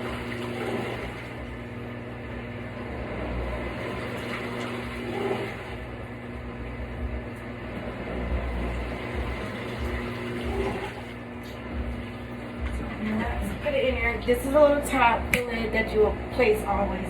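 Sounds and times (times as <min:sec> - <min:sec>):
low motor hum: 0:00.0 - 0:17.0
water sloshing in washing machine: 0:00.0 - 0:17.0.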